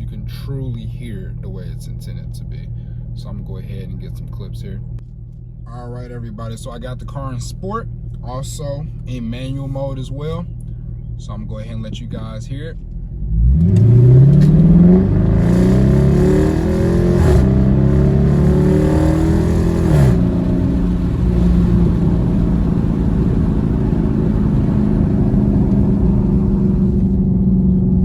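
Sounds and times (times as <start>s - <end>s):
car exhaust accelerating hard: 0.0s - 28.0s.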